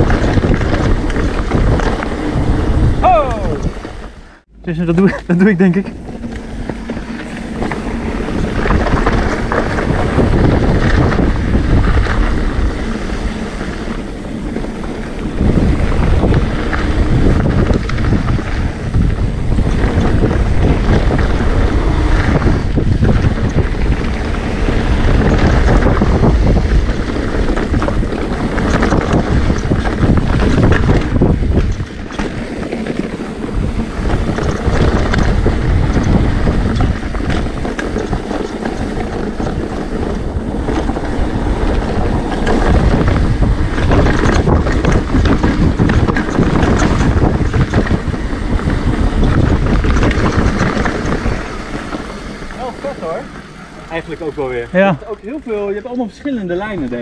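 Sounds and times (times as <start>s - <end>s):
tyres rolling over gravel: 0.0s - 3.0s, 4.9s - 57.0s
wind rushing over microphone: 0.0s - 57.0s.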